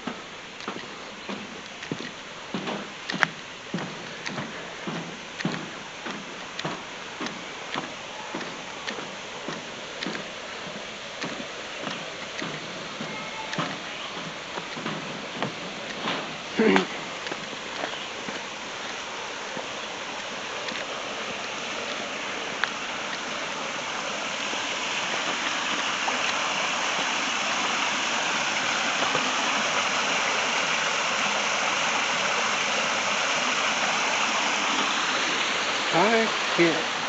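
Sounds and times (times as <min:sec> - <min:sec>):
creek water rushing over rocks: 0:00.0 - 0:37.0.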